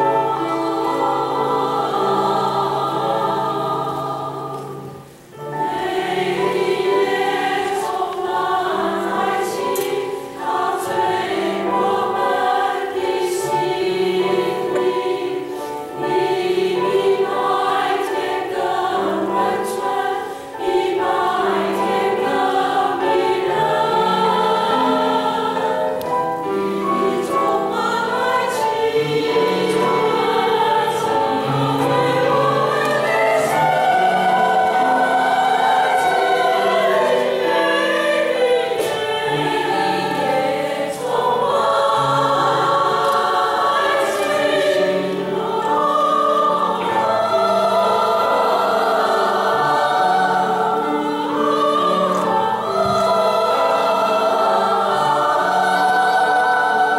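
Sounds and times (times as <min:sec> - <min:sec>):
women's choir singing: 0:00.0 - 0:56.9.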